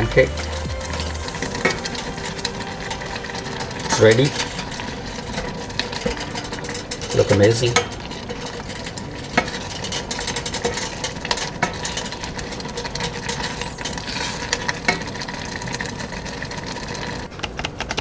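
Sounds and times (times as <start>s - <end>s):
utensil scraping cookware: 0.0s - 17.9s
steady background hum: 0.0s - 18.0s.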